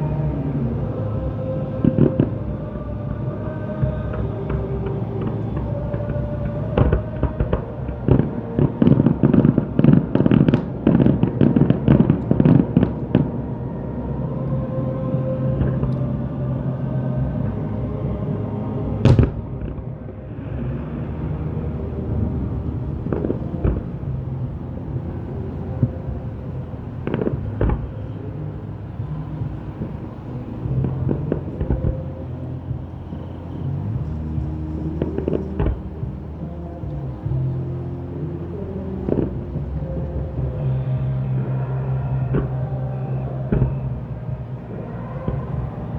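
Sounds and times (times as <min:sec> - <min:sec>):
low hum with sustained tones: 0:00.0 - 0:45.9
steady low rumble: 0:00.0 - 0:45.9
fireworks bangs and crackles: 0:03.7 - 0:14.0, 0:15.1 - 0:16.2, 0:16.8 - 0:45.9.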